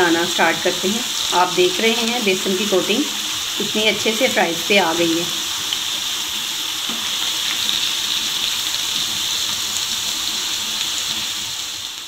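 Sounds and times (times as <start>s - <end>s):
fries sizzling in hot oil: 0.0s - 12.0s.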